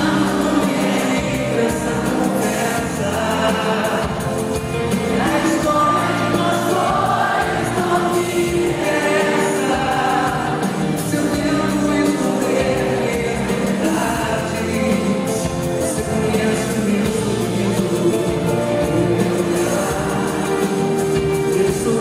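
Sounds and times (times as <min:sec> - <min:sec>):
band accompaniment: 0:00.0 - 0:22.0
choir of voices: 0:00.0 - 0:22.0
person singing pop ballad: 0:00.0 - 0:22.0.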